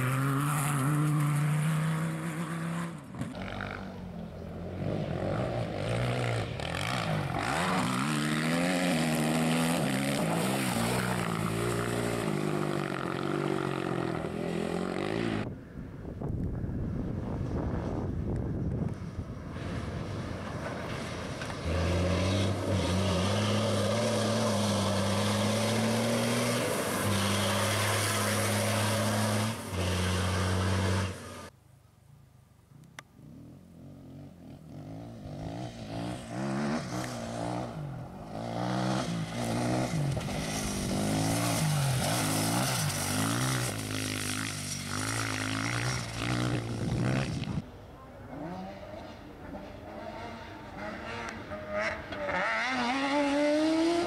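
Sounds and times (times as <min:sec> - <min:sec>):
motorcycle engine revving: 0:00.0 - 0:15.5, 0:21.4 - 0:31.5, 0:33.2 - 0:47.6, 0:48.3 - 0:54.0.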